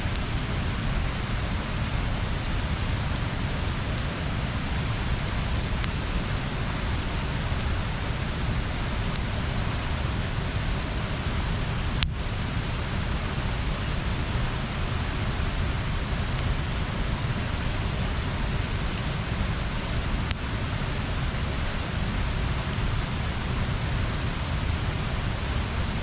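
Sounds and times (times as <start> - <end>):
bonfire hissing: 0.0 - 26.0
fire crackling pops: 0.0 - 26.0.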